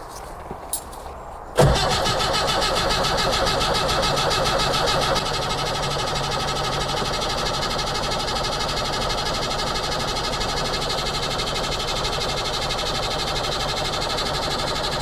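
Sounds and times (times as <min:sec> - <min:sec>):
starter motor cranking diesel engine: 0:01.6 - 0:15.0.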